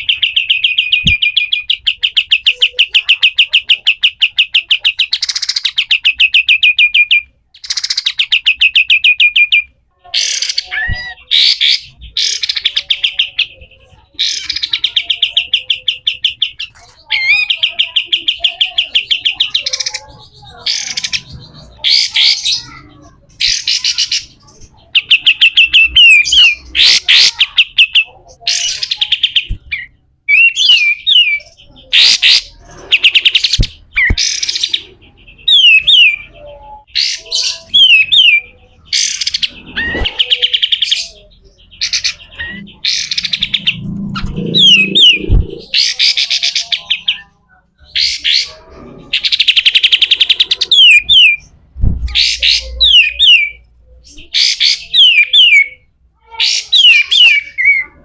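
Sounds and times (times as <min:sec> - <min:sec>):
songbird harsh rasping trills: 0:00.0 - 0:51.5.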